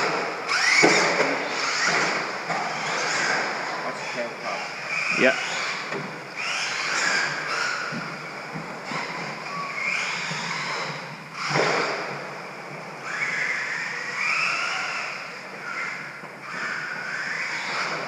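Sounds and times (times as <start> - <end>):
toy truck motor whining: 0.0 - 12.2, 12.9 - 18.0.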